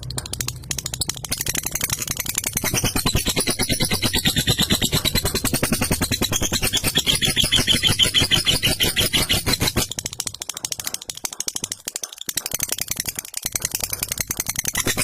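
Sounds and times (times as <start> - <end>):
lovebird rapid chatter: 0.0 - 15.0.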